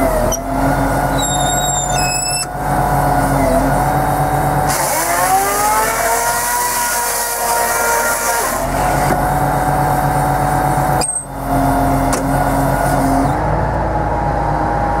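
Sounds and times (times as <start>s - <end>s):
tractor engine running: 0.0s - 5.9s, 8.6s - 15.0s
hydraulic whine: 0.0s - 15.0s.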